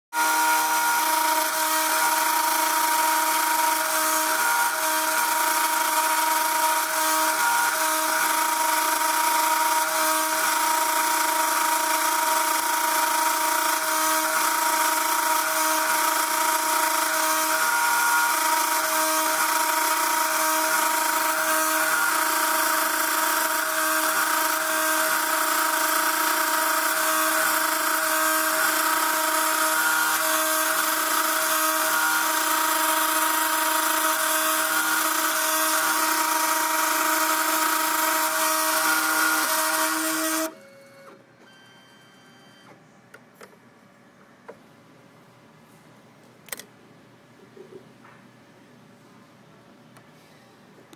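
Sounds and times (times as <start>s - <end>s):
engraving machine spindle whine: 0.2s - 41.1s.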